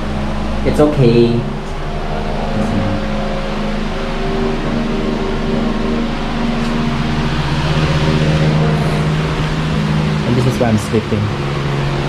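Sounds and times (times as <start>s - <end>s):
low steady tones: 0.0s - 12.0s
mechanical hum with whirring: 0.0s - 12.0s.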